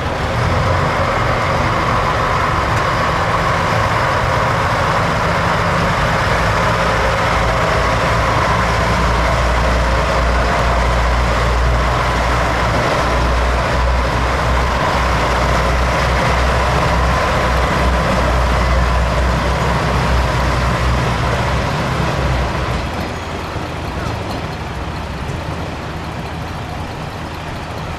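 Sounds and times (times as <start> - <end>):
diesel railcar engines droning: 0.0 - 27.9.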